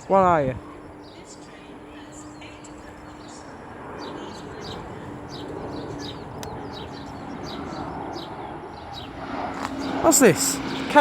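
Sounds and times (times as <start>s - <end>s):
airliner rumble: 0.0s - 11.0s
small birds chirping: 0.0s - 11.0s.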